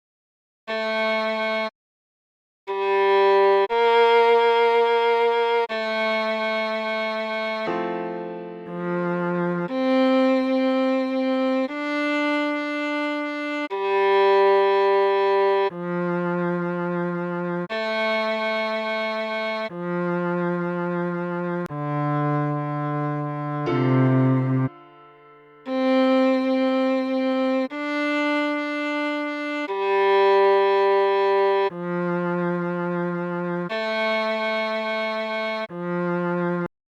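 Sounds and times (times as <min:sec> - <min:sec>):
viola playing long bowed notes: 0:00.7 - 0:01.7, 0:02.7 - 0:36.7.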